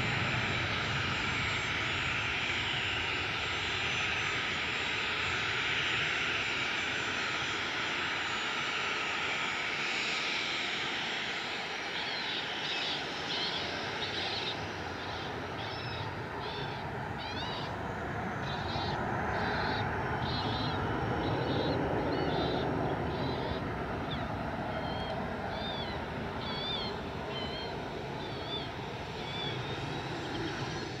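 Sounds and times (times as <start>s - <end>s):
jet engines rumbling at takeoff: 0.0s - 31.0s.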